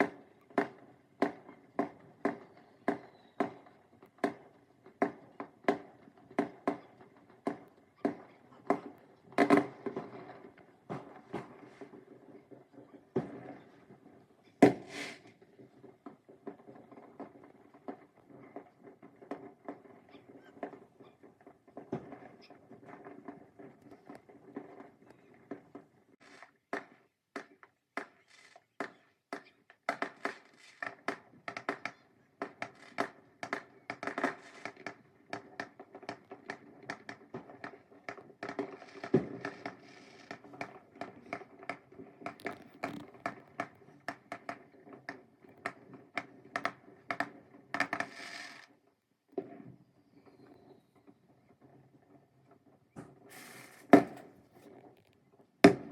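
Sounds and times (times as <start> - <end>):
fireworks popping and crackling: 0.0 - 55.9.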